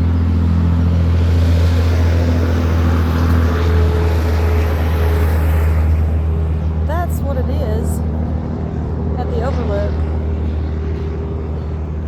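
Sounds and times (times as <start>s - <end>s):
traffic noise: 0.0s - 12.0s
vehicle engine droning: 0.0s - 12.0s.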